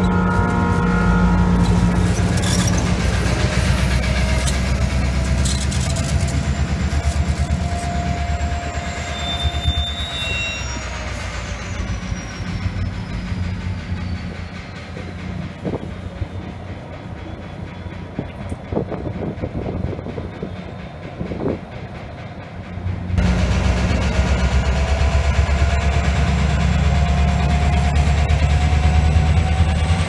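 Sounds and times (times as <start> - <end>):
train wheels clattering: 1.5 - 30.0.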